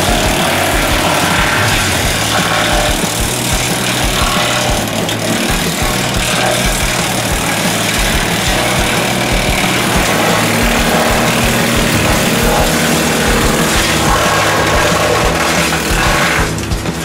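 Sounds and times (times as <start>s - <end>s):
wood chipper engine drone: 0.0s - 17.0s.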